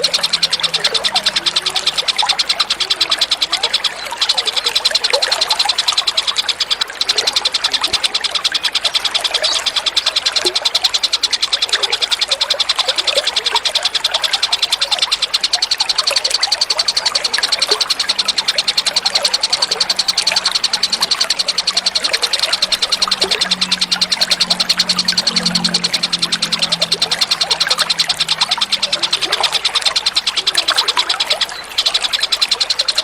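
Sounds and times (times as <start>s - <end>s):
bird chipping rapidly: 0.0s - 33.0s
low chirps: 0.0s - 33.0s.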